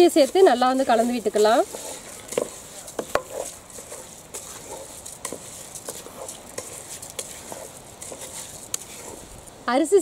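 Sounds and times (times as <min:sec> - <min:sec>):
spatula scraping through rice: 0:00.0 - 0:09.6.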